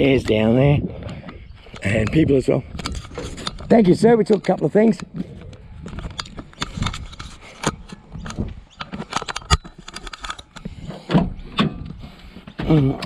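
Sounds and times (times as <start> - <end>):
small clicks and knocks: 1.2 - 13.0.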